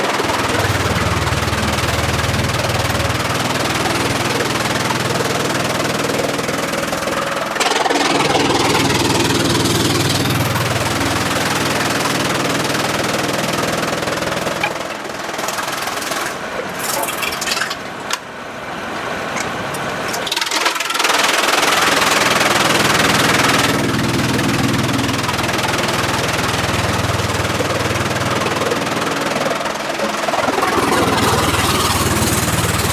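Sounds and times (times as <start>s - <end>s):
sawmill machinery motor hum: 0.0s - 32.9s.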